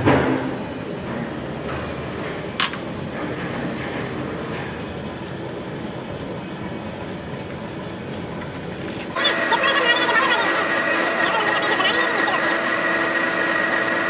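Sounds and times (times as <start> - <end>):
heavy workshop machinery running: 0.0 - 14.0.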